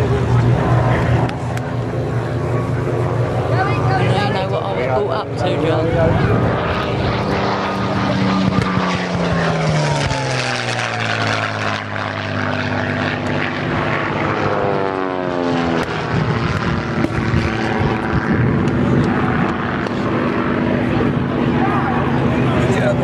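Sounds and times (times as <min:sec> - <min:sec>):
propeller plane engine: 0:00.0 - 0:23.0.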